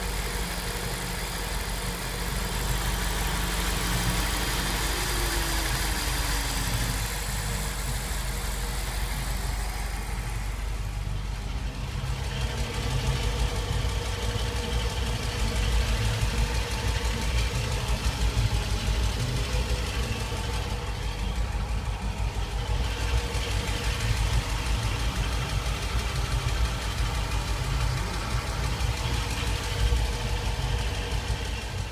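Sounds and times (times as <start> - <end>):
car engine idling with ticking: 0.0 - 31.9.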